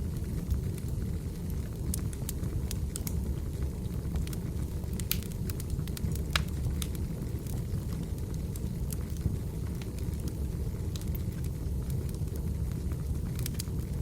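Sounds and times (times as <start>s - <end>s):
firewood crackling and popping: 0.0s - 14.0s
low rumble of fire: 0.0s - 14.0s.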